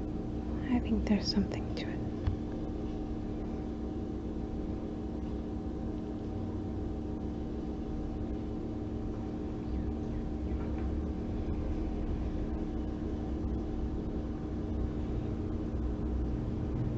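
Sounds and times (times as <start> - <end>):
fan humming: 0.0 - 16.9.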